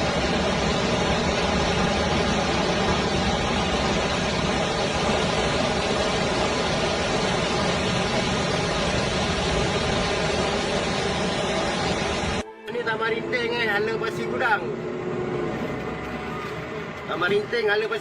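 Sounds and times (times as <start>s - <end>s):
noisy hiss: 0.0s - 18.0s.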